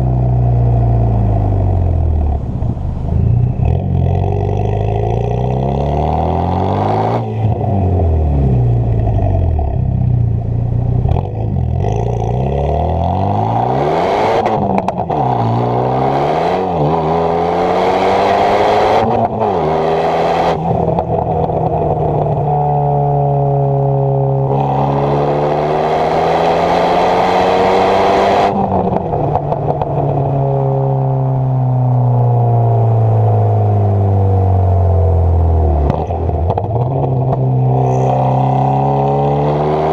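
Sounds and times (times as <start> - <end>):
car exhaust under hard acceleration: 0.0 - 39.9.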